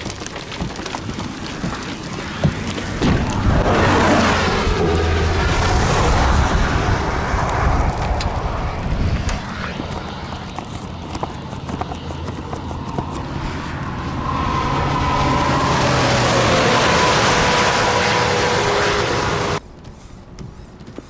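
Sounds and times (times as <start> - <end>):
tyres on wet road: 0.0 - 19.6.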